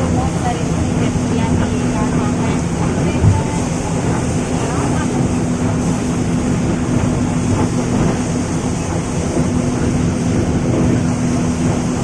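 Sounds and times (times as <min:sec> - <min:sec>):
ship engine droning: 0:00.0 - 0:12.0.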